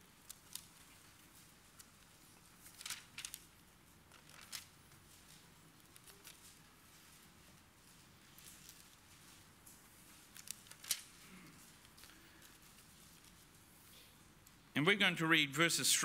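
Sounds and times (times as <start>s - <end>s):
paper pages rustling: 0.0s - 14.6s.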